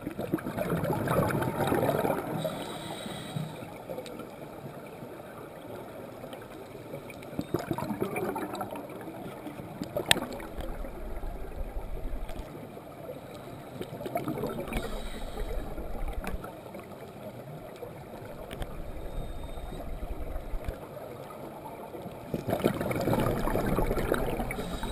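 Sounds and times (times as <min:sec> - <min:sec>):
underwater bubbles gurgling: 0:00.0 - 0:24.9.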